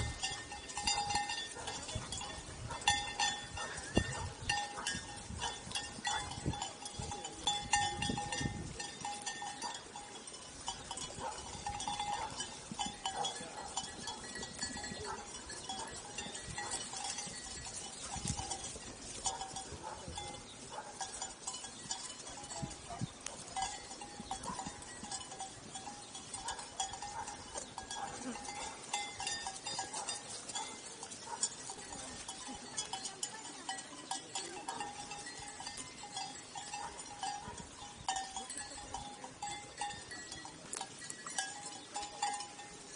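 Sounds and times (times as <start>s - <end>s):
sheep bells clinking: 0.0s - 42.9s
sheep tearing and chewing grass: 0.0s - 42.9s.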